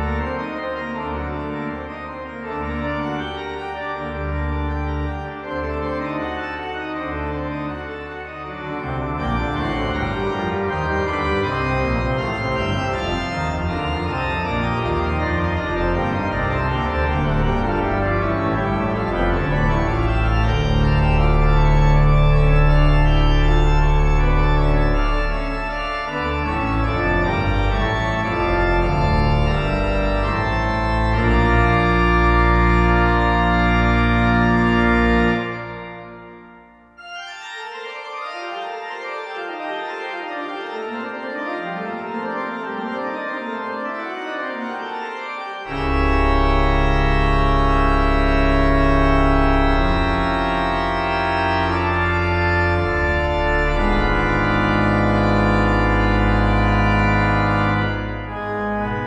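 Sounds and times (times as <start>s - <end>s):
pipe organ playing: 0.0s - 59.0s.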